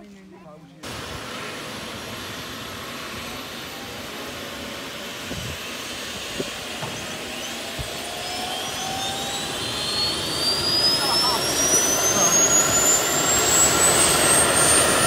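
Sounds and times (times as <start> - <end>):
helicopter turbine engine starting: 0.8 - 15.0.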